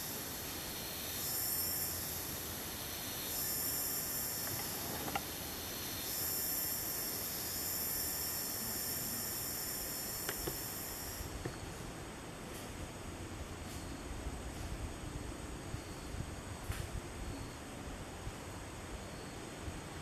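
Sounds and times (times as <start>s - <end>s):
cicadas buzzing: 0.0s - 20.0s.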